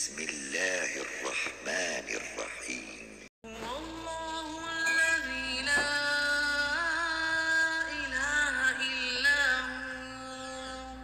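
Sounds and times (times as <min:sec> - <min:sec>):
person chanting: 0:00.0 - 0:11.0.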